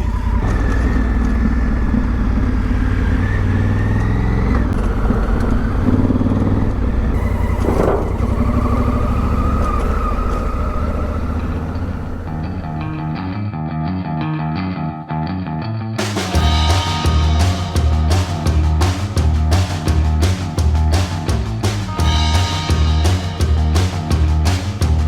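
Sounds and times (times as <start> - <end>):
motorcycle engine running: 0.0 - 13.4, 16.1 - 25.0.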